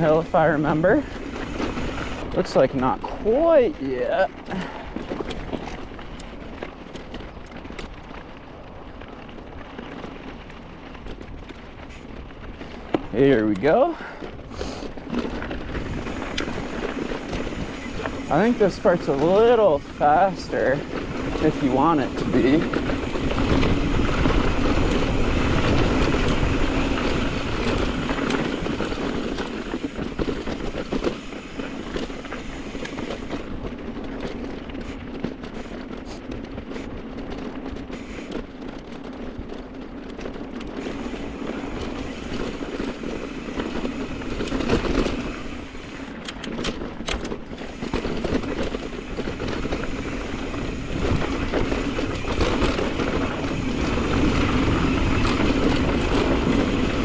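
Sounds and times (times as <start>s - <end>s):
wind rushing over microphone: 0.0s - 6.5s, 10.4s - 39.6s, 40.5s - 57.0s
bike rattling and clicking: 0.0s - 57.0s
bike tyres rolling over dirt: 0.0s - 57.0s.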